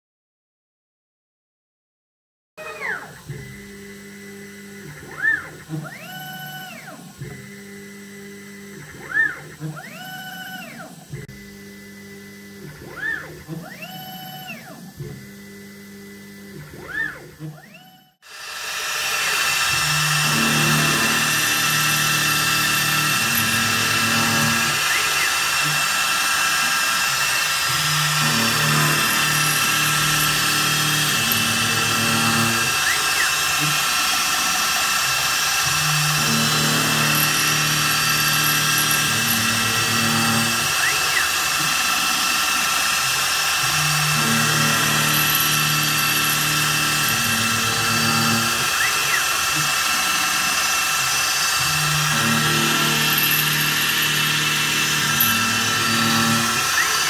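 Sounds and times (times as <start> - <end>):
axis motors whining: 2.6 - 57.0
milling machine cutting metal: 2.6 - 57.0.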